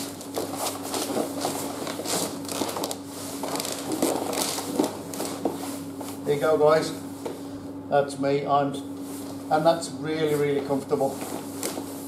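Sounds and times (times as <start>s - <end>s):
bedding rustling and scraping: 0.0s - 7.5s, 9.0s - 12.0s.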